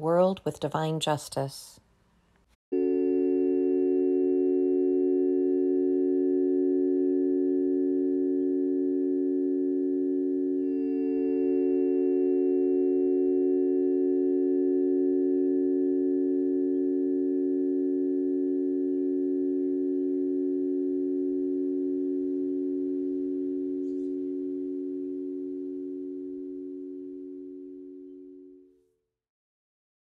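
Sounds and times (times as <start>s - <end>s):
chord of pure tones: 2.7s - 28.8s.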